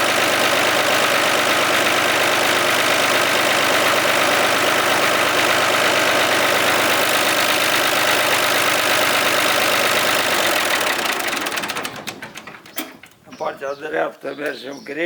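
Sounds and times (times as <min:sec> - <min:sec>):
hydraulic pump motor hum: 0:00.0 - 0:13.4.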